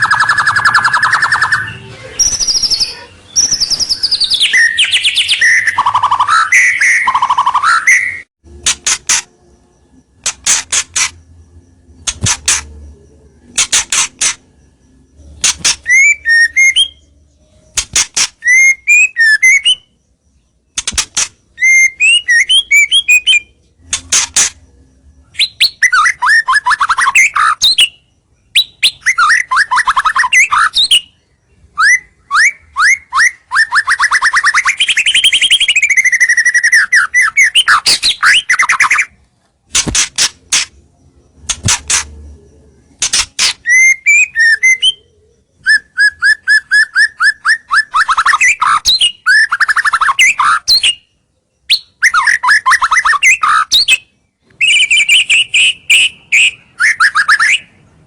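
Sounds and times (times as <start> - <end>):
songbird singing with trills: 0.0 - 39.5, 40.5 - 58.0.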